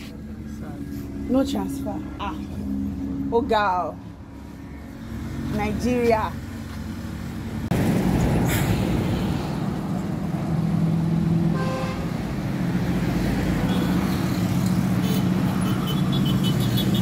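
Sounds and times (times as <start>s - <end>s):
heavy truck passing: 0.0s - 17.0s
passing vehicles rumbling: 0.0s - 17.0s.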